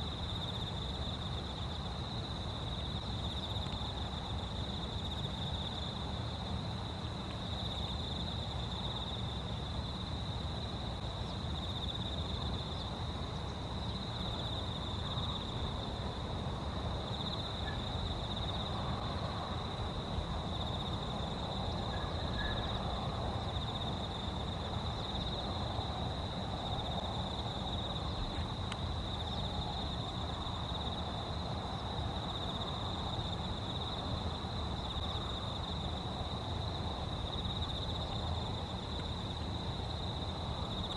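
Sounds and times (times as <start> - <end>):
low rumble of outdoor noise: 0.0 - 40.9.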